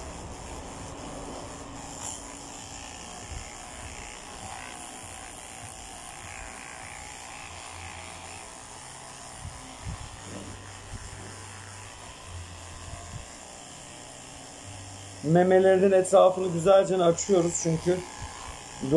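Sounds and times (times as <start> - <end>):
electric dog clippers running: 0.0 - 18.9.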